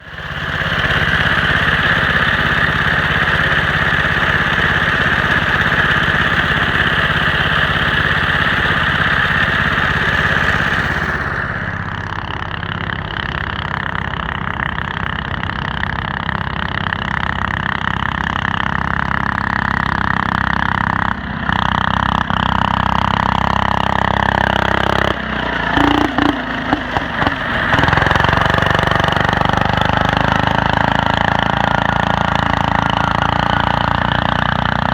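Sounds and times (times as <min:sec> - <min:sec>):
minibike engine running: 0:00.0 - 0:34.9.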